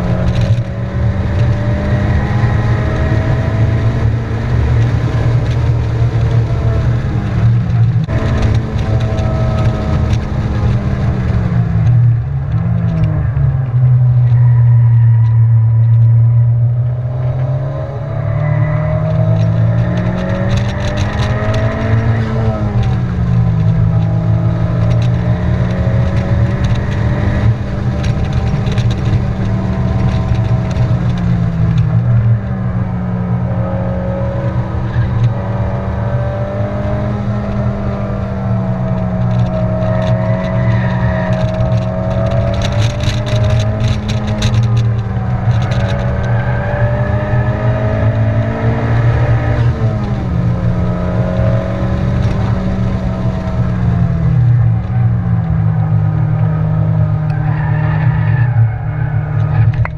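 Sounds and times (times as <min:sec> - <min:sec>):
car engine drone in cabin: 0:00.0 - 0:59.9
tyre and wind noise: 0:00.0 - 0:59.9.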